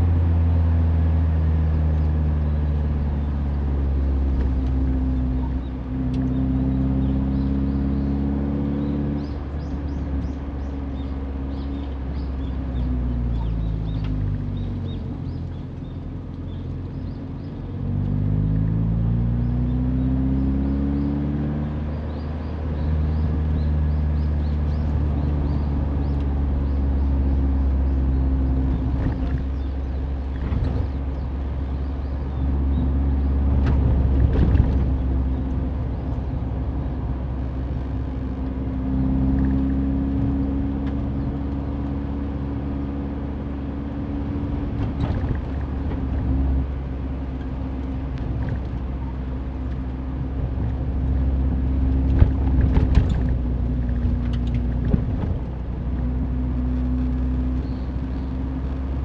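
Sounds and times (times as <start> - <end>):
car engine: 0.0 - 59.0
road rumble: 0.0 - 59.0.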